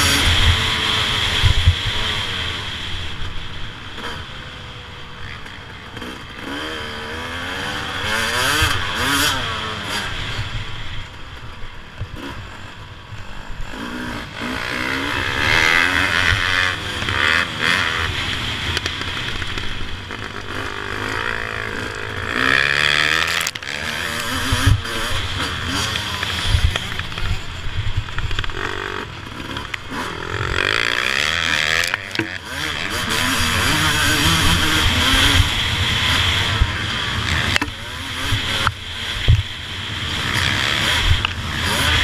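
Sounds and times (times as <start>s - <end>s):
motocross engine revving: 0.0s - 42.0s.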